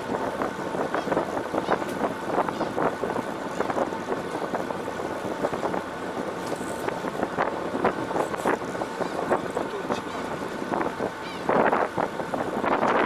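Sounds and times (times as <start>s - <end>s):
fishing boat noise: 0.0s - 13.0s
wind on microphone: 0.0s - 13.0s.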